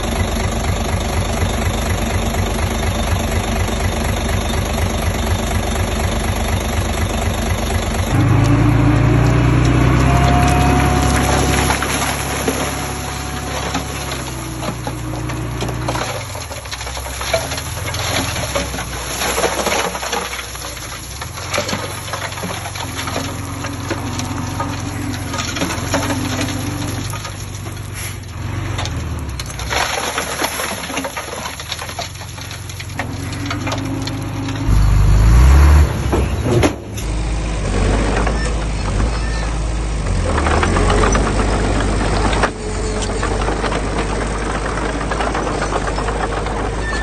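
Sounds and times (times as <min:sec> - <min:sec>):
earthmoving machinery diesel engine: 0:00.0 - 0:47.0.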